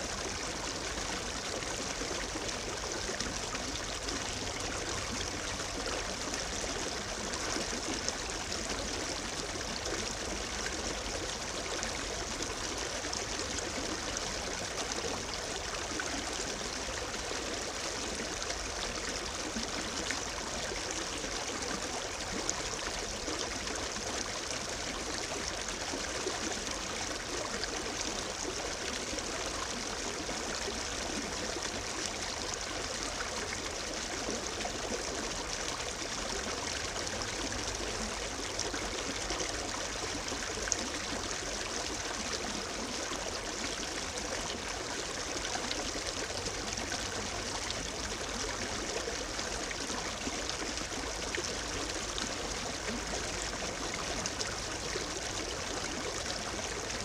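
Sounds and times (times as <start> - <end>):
brook babbling over stones: 0.0 - 57.0.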